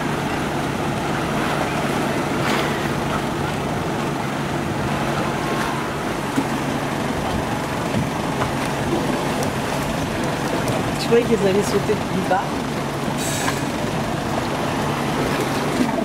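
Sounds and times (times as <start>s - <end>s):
waves washing against rocks: 0.0s - 16.0s
wind: 0.0s - 16.0s.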